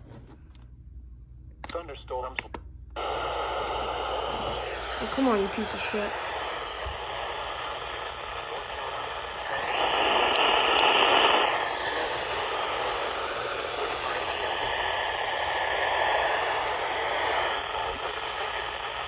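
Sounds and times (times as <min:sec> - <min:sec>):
radio static hiss: 0:03.0 - 0:19.0.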